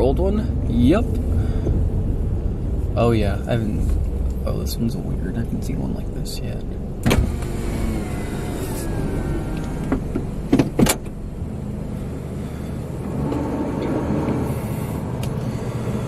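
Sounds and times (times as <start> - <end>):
car engine and rolling rumble: 0.0 - 16.0.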